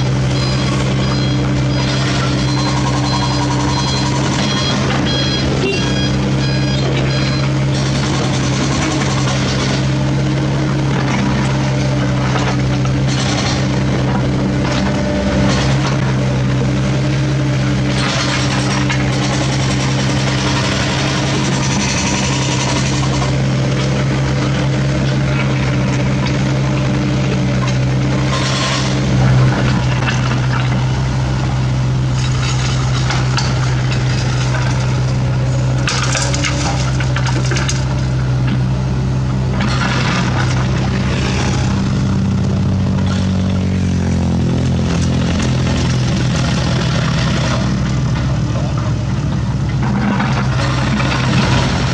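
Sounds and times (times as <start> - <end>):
diesel engines droning: 0.0 - 51.9.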